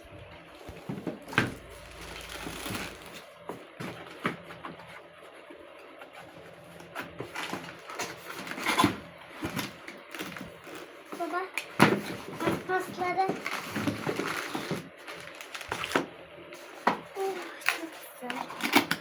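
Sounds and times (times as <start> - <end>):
packaging rustling: 0.3 - 11.1, 12.0 - 19.0.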